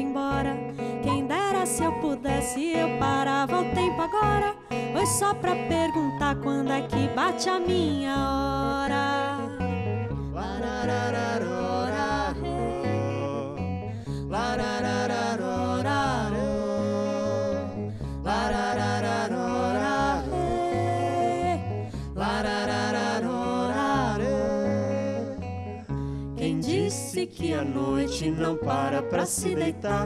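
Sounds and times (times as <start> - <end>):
bass guitar notes: 0.0 - 30.0.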